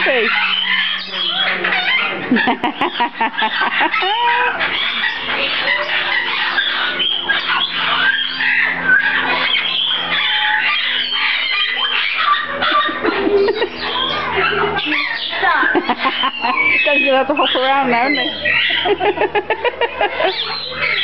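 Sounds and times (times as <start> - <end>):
birds chirping and squawking: 0.0 - 21.0.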